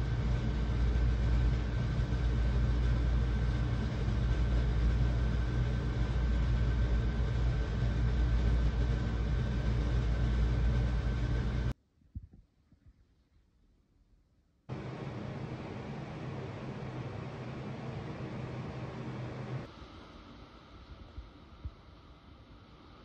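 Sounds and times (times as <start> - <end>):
faint high whine: 0.0 - 11.8, 14.7 - 23.0
low mechanical rumble: 0.0 - 11.8, 14.7 - 23.0.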